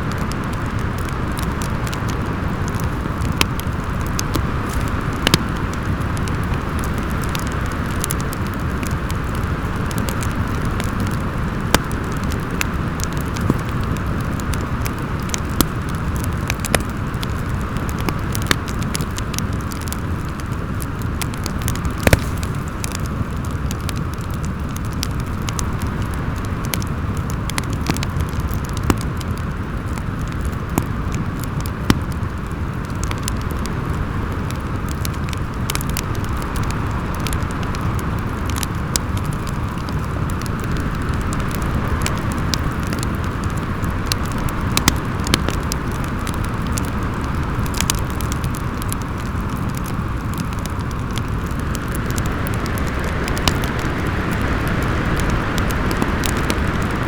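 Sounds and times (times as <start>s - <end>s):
howling wind: 0.0s - 57.0s
wood fire crackling: 0.0s - 57.0s.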